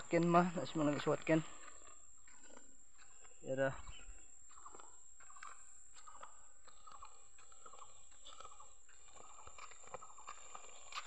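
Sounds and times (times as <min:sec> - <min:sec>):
footsteps crunching on gritty road: 0:00.0 - 0:11.0.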